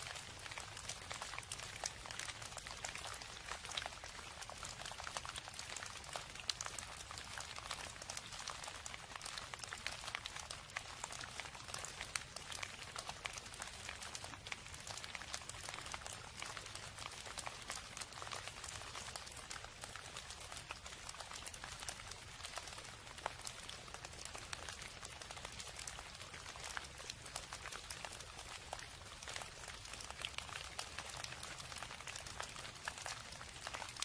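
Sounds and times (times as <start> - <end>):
rain drops ticking: 0.0 - 34.0.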